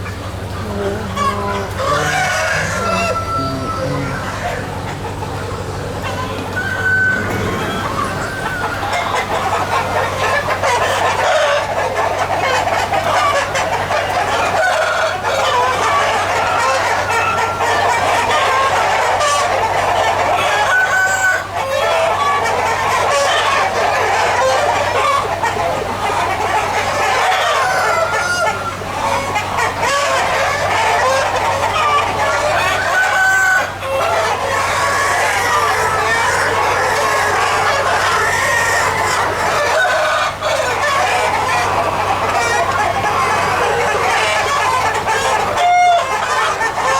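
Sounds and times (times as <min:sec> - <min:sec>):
chickens clucking and squawking: 0:00.0 - 0:46.9
roosters crowing: 0:00.0 - 0:46.9.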